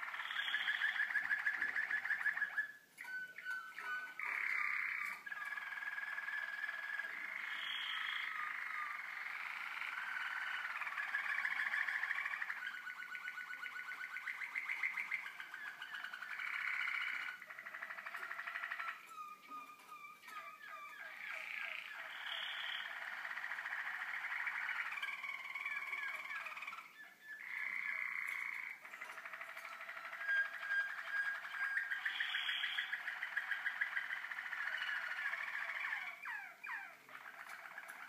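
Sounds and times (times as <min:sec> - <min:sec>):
canaries singing trills: 0:00.0 - 0:38.0.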